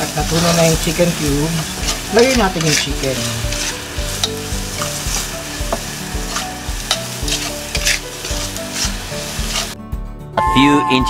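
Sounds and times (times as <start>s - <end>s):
food sizzling in oil: 0.0s - 9.8s
metal spatula scraping a wok: 0.0s - 9.8s.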